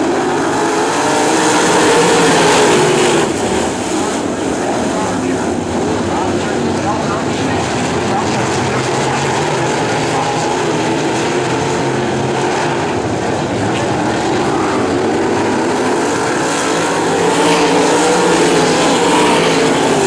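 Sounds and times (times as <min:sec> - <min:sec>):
racing car engines droning: 0:00.0 - 0:20.0.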